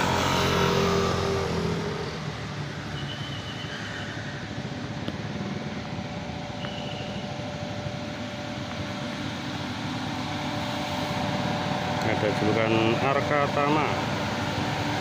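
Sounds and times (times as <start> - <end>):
bus diesel engine droning: 0.0 - 3.7, 4.5 - 15.0.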